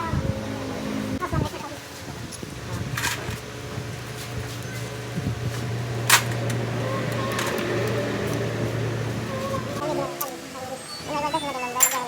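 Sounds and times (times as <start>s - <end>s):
low machine hum: 0.0s - 10.7s.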